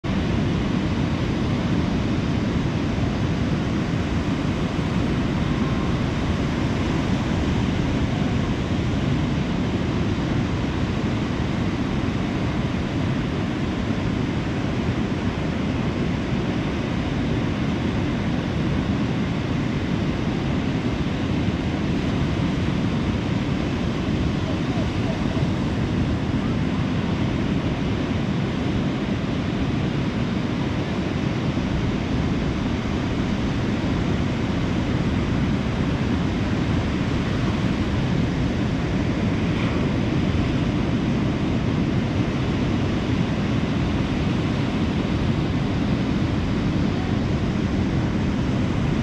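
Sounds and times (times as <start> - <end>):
ocean waves washing onto beach: 0.0 - 49.0.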